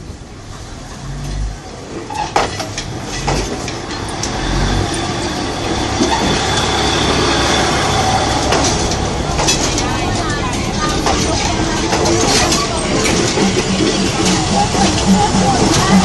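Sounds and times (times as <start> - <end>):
railcar rumbling and rattling: 0.0 - 16.0.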